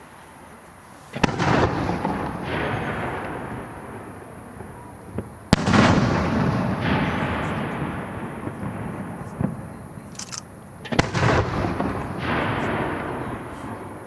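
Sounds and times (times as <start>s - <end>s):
fireworks bursting with echo: 0.0s - 14.0s.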